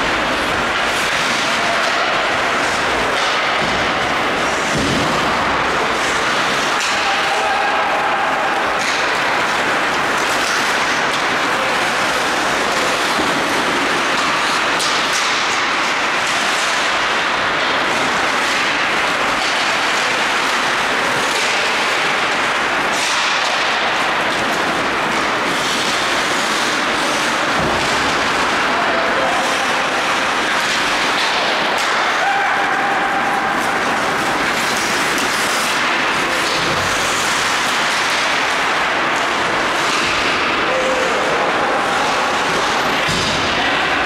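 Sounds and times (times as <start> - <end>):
rink noise: 0.0 - 44.0
skate blades scraping ice: 0.0 - 44.0.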